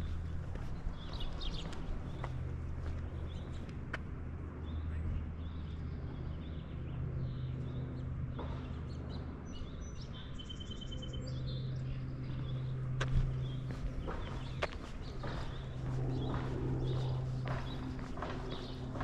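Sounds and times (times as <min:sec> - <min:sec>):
small birds chirping: 0:00.0 - 0:04.0, 0:04.6 - 0:19.0
steady low hum: 0:00.0 - 0:19.0.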